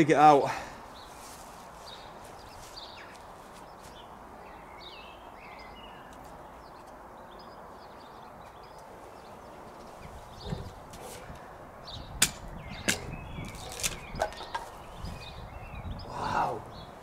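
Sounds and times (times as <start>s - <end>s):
quiet outdoor background noise: 0.0s - 17.0s
small birds chirping: 0.6s - 17.0s.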